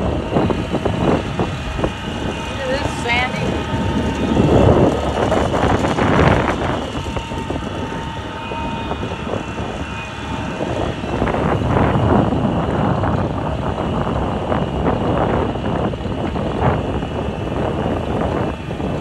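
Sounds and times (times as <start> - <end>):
rushing wind: 0.0 - 19.0
vehicle road noise: 0.0 - 19.0.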